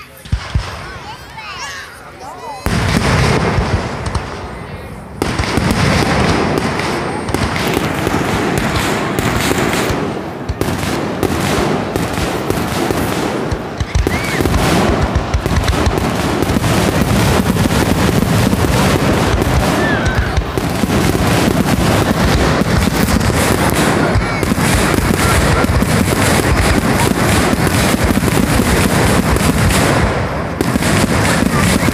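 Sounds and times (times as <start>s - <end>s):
firework shells bursting: 5.2s - 31.9s.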